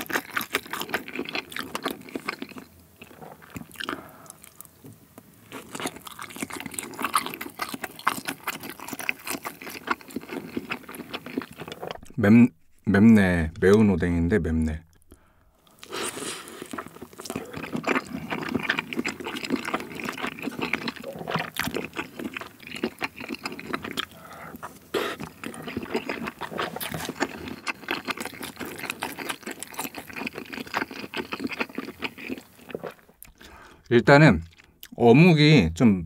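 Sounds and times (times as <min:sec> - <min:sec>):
wet chewing mouth sounds: 0:00.0 - 0:04.7, 0:05.5 - 0:12.2, 0:14.9 - 0:33.8.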